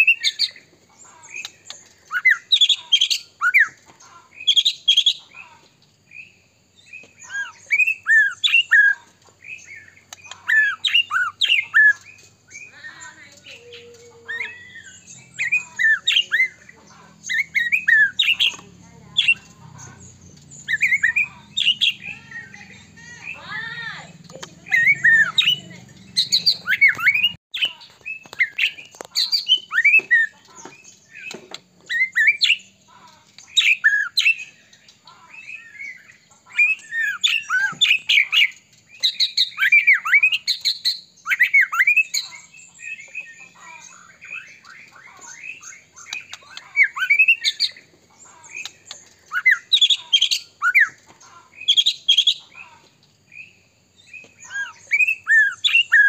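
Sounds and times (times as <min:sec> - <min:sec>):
songbird singing whistled phrases: 0:00.0 - 0:32.8, 0:33.4 - 0:56.0.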